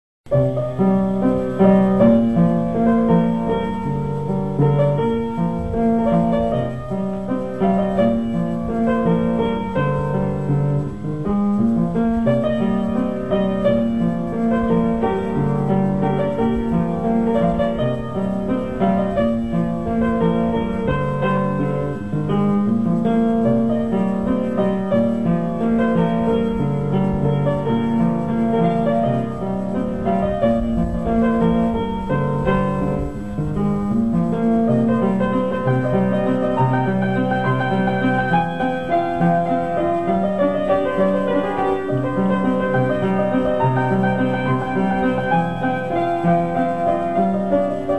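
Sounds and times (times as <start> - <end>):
ambient keyboard music: 0.3 - 47.9.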